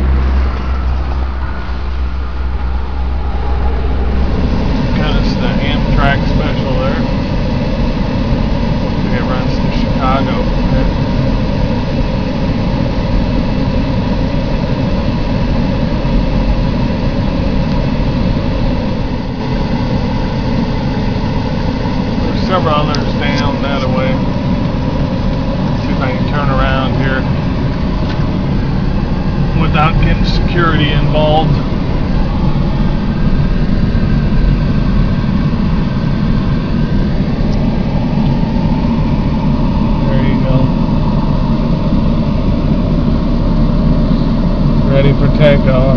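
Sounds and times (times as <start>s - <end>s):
car engine and road noise inside cabin: 0.0s - 45.9s
passing train rumble: 0.0s - 45.9s.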